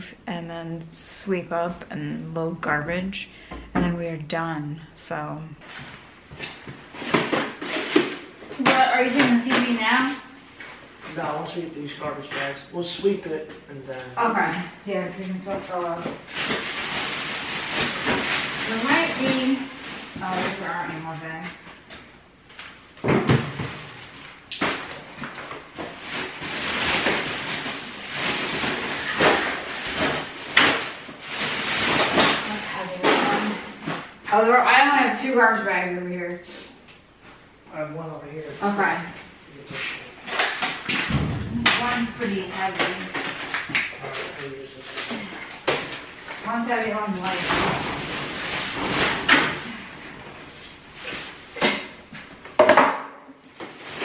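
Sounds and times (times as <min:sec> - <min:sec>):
plastic garbage bags rustling: 0:05.6 - 0:21.8, 0:22.4 - 0:35.5, 0:38.3 - 0:52.6, 0:53.4 - 0:54.0.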